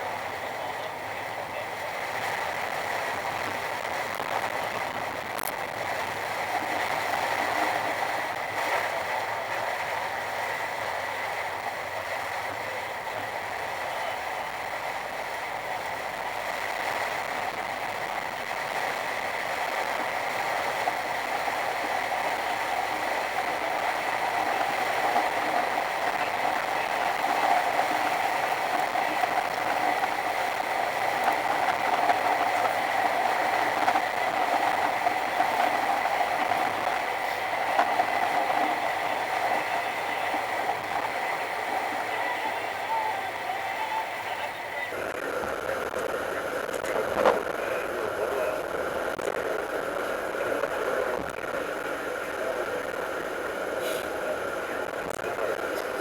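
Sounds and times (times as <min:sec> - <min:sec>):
heavy rain: 0:00.0 - 0:56.0
tyres on wet road: 0:00.0 - 0:56.0.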